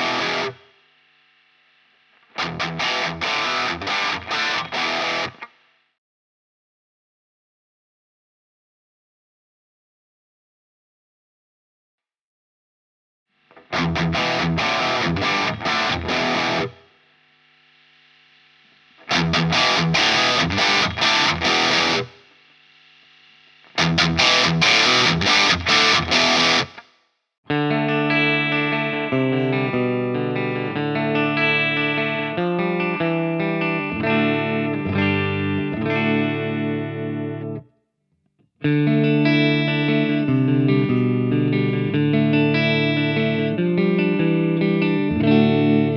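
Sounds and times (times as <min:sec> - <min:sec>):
distorted electric guitar riffs: 0:00.0 - 0:05.8, 0:13.4 - 0:37.7, 0:38.6 - 0:45.9.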